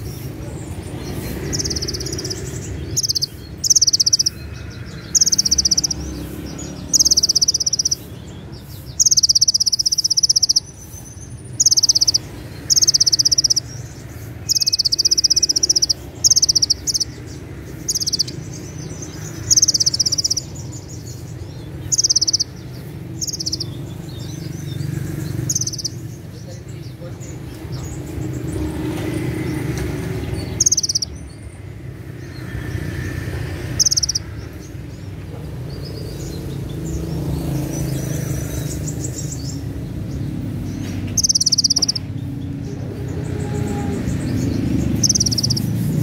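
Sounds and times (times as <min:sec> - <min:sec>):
bird singing shrill trills: 0:00.0 - 0:46.0.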